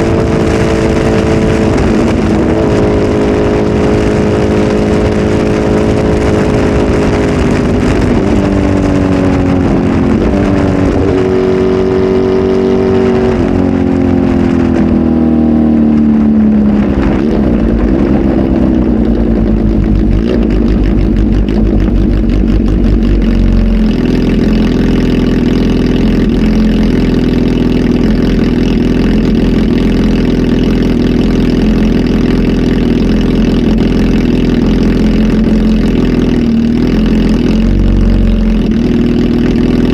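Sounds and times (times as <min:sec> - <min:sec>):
motorcycle engine revving down to idle: 0:00.0 - 0:39.9.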